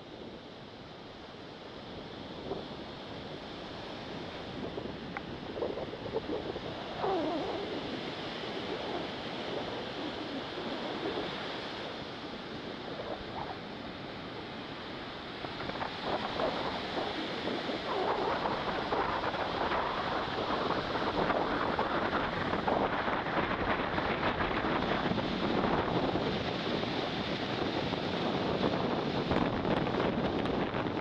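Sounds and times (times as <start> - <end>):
wind buffeting microphone: 2.0 - 31.0
surf breaking on beach: 2.4 - 31.0.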